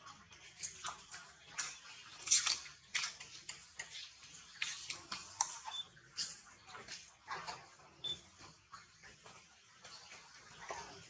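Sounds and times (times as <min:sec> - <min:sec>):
monkeys splashing in water: 0:00.0 - 0:11.0.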